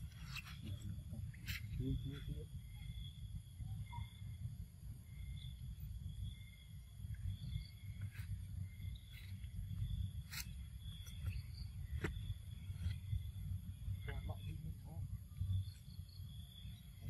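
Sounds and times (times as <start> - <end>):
insects chirping: 0.0 - 17.0
steady low rumble: 0.0 - 17.0.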